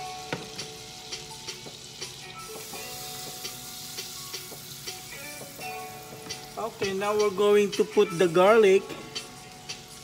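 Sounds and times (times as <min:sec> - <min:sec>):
butter sizzling in a frying pan: 0:00.0 - 0:10.0.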